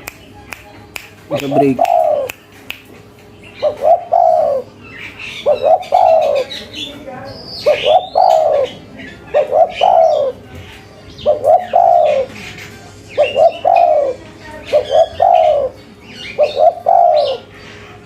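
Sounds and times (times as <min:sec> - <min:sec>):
small birds chirping: 0:00.0 - 0:18.0
dove cooing: 0:01.4 - 0:02.4, 0:03.6 - 0:18.0.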